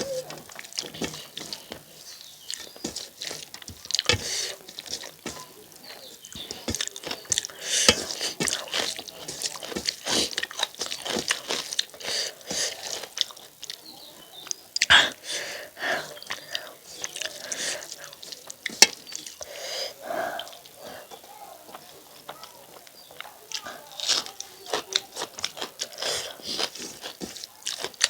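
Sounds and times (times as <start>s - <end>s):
wet chewing and lip smacks: 0.0s - 15.2s, 16.1s - 19.6s, 20.3s - 28.0s
food crunching: 0.0s - 28.0s.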